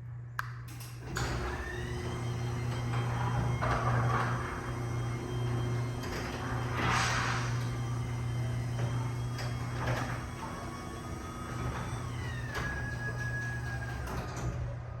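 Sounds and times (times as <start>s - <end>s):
garage door opener motor hum: 0.2s - 15.0s.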